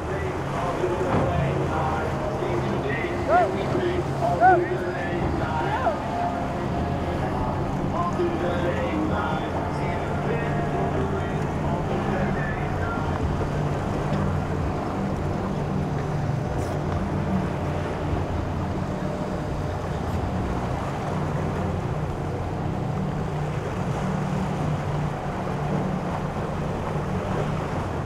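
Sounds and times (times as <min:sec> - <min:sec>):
boat engines droning: 0:00.0 - 0:28.0
waves washing: 0:00.0 - 0:28.0.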